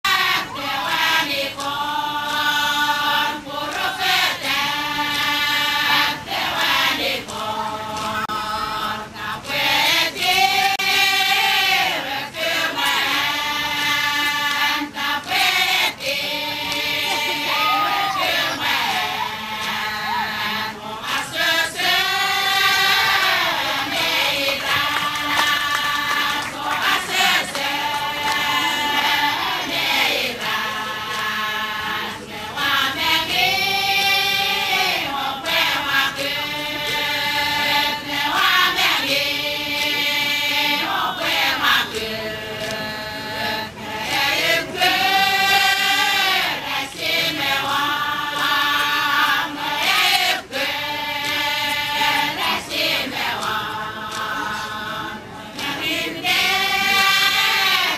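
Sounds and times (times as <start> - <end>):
women chanting in unison: 0.0 - 57.9.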